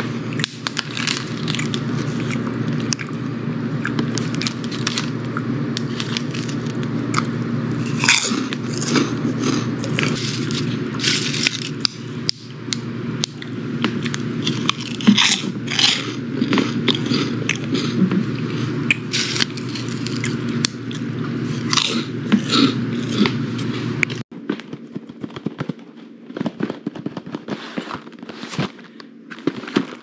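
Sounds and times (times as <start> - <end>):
chewing crunchy pork rinds: 0.0 - 24.6.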